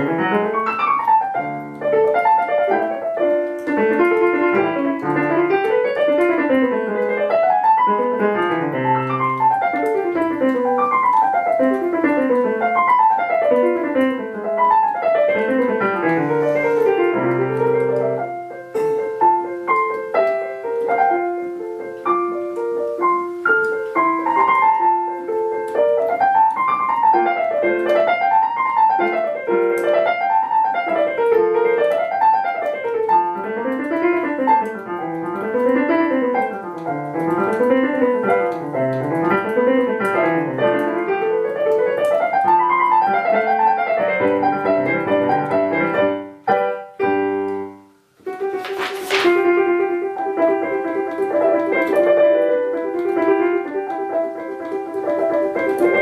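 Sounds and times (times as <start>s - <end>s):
piano arpeggios: 0.0s - 56.0s.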